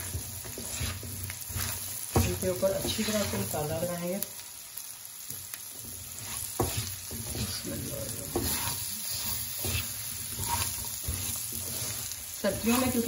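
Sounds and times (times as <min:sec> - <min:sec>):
spatula scraping a wok: 0:00.0 - 0:04.0, 0:05.4 - 0:13.0
vegetables sizzling in oil: 0:00.0 - 0:13.0.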